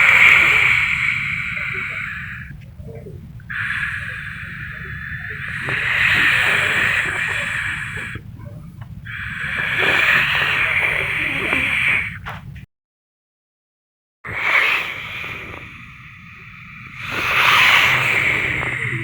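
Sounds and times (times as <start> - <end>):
gusting wind: 0.0 - 12.6, 14.3 - 19.0.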